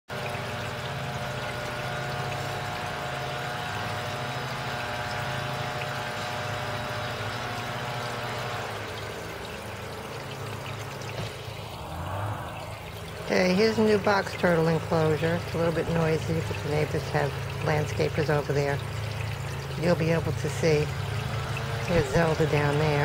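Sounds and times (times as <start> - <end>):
water trickling and splashing: 0.1 - 23.0
motor drone: 0.2 - 23.0.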